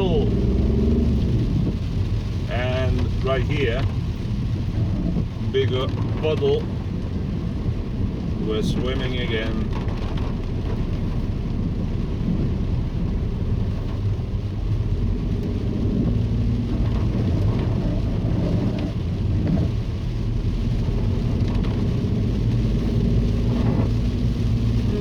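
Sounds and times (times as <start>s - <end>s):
engine and tyres rumbling: 0.0s - 25.0s
water swishing under car: 0.0s - 25.0s.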